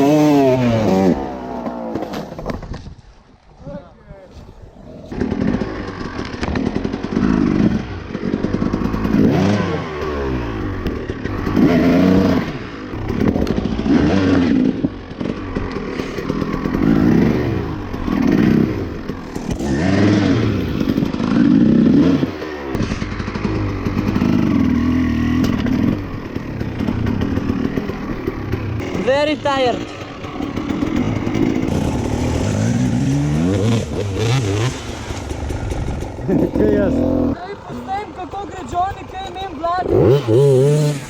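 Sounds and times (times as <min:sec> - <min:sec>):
dirt bike engine revving: 0:00.0 - 0:02.5, 0:04.7 - 0:41.0.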